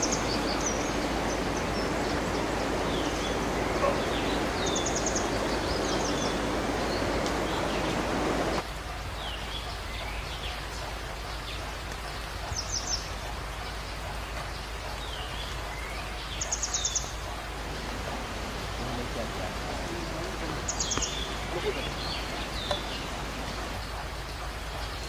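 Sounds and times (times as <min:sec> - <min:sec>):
birds calling: 0:00.0 - 0:25.0
running water rushing: 0:00.0 - 0:25.0.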